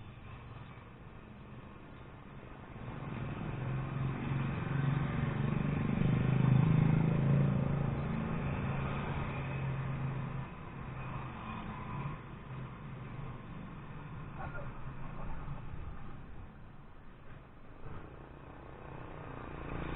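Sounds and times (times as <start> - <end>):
vehicle engine passing by: 2.7 - 16.5, 17.8 - 19.9.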